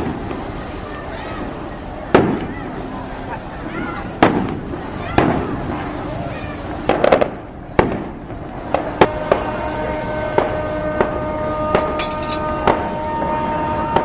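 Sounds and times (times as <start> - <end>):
fireworks bangs: 0.0 - 0.8, 2.1 - 2.9, 4.1 - 14.0
boat hooters sounding: 0.0 - 14.0.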